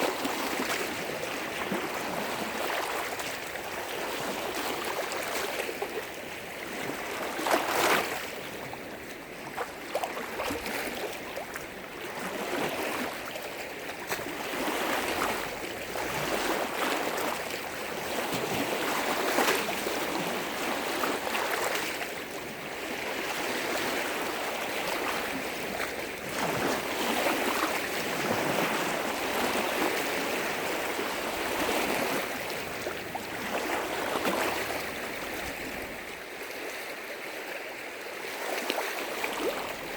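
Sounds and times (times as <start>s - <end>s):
lake waves breaking on shore: 0.0s - 39.9s.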